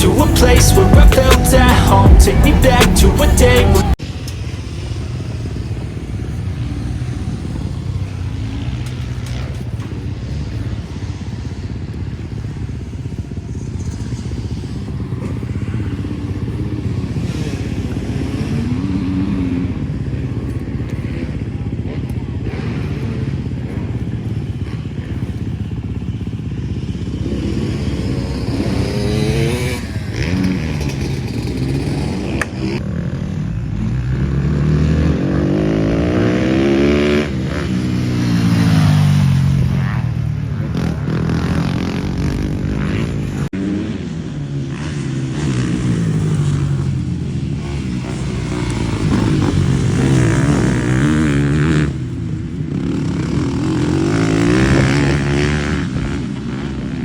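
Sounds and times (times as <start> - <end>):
dirt bike engine revving: 0.0 - 4.0, 5.0 - 57.0.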